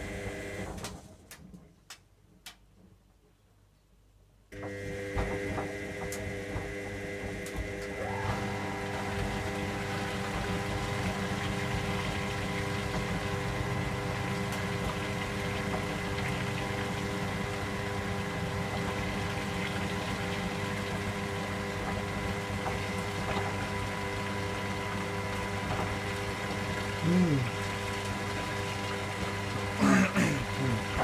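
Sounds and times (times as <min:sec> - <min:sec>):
washing machine hum: 0:00.0 - 0:03.0, 0:04.5 - 0:31.0
water flowing in washing machine: 0:04.6 - 0:31.0.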